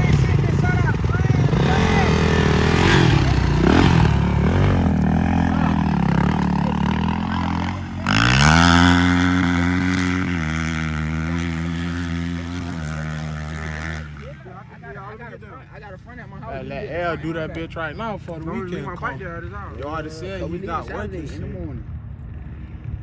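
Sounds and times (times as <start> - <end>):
dirt bike engines revving: 0.0 - 22.8.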